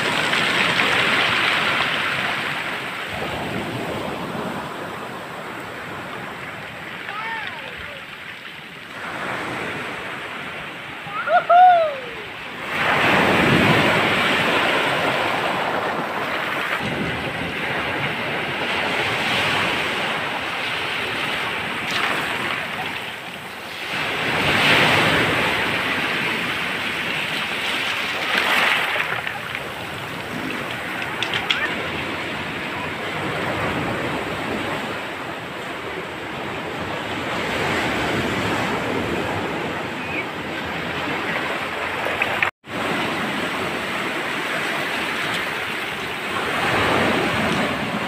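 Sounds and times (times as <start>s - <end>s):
surf on pebble beach: 0.0s - 48.0s.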